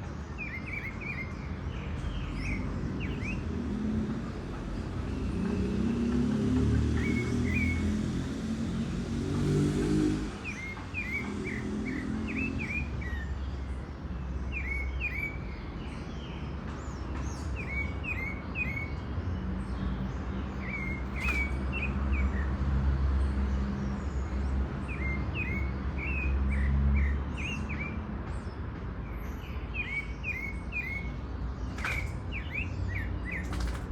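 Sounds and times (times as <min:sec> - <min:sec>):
songbird singing: 0:00.0 - 0:33.9.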